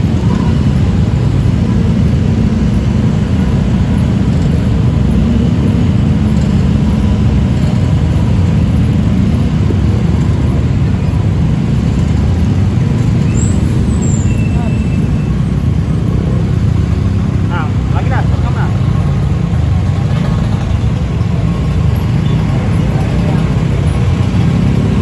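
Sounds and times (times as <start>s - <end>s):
low rumble of road traffic: 0.0s - 25.0s.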